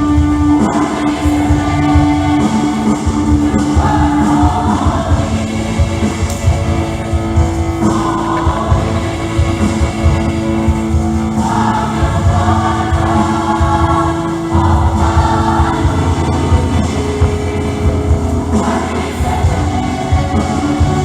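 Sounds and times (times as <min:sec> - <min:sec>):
church choir singing: 0:00.0 - 0:21.0.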